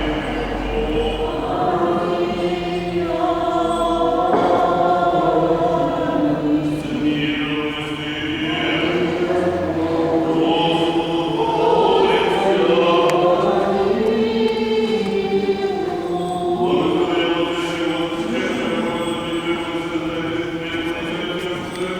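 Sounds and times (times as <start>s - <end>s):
voices chanting long held notes: 0.0s - 21.9s.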